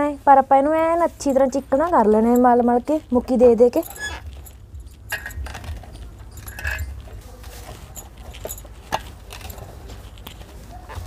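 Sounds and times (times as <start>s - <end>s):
bangles clinking: 1.2s - 10.9s.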